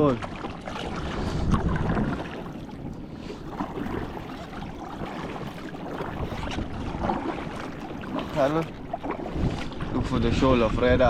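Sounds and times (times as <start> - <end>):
water splashing and rushing: 0.0 - 11.0
wind noise on microphone: 0.7 - 11.0.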